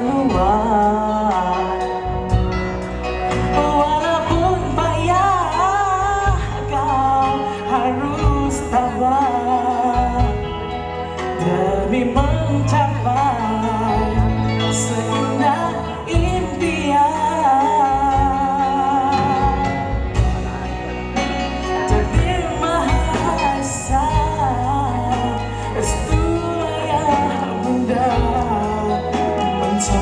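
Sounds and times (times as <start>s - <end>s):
band playing: 0.0s - 30.0s
man singing with vibrato: 0.0s - 30.0s.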